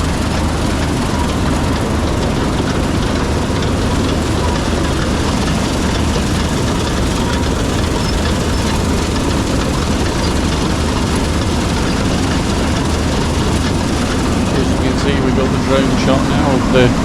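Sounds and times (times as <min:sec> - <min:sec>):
combine harvester engine drone: 0:00.0 - 0:17.0
threshing machinery whirring: 0:00.0 - 0:17.0.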